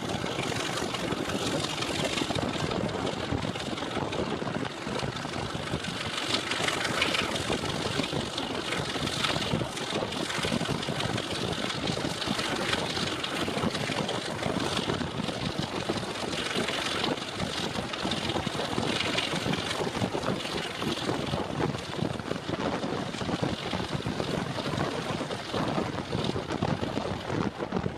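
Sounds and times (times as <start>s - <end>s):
diesel locomotive engine running: 0.0s - 27.9s.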